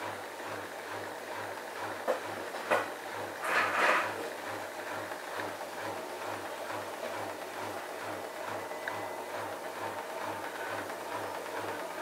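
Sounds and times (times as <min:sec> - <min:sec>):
washing machine pulsing hum: 0:00.0 - 0:12.0.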